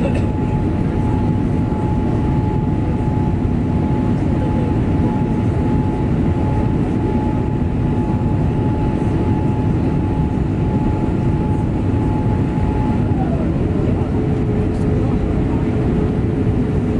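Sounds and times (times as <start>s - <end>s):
jet engines rumbling: 0.0s - 16.9s
thin engine whine: 0.0s - 16.9s.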